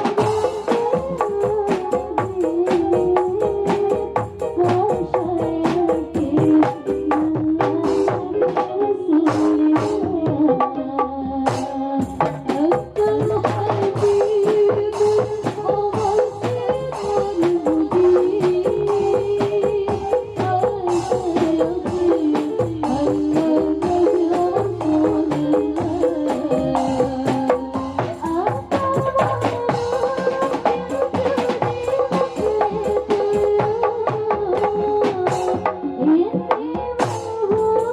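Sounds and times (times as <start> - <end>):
hand drums: 0.0 - 37.9.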